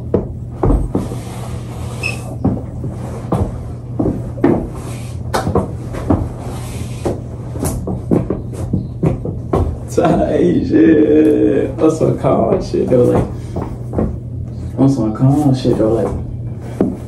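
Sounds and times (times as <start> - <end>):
feet knocking on a hard floor: 0.0 - 1.5, 2.3 - 14.5, 15.4 - 17.0
steady low hum: 0.0 - 17.0.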